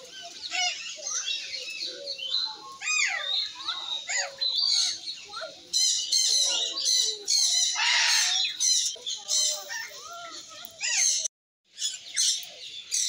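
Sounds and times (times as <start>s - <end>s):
birds chirping and calling: 0.0s - 13.0s
harsh bird call: 0.1s - 13.0s.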